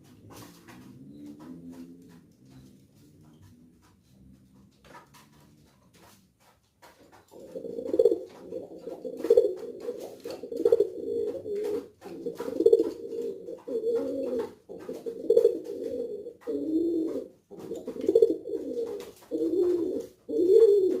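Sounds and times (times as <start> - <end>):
pigeon cooing: 0.0 - 6.2, 7.3 - 21.0.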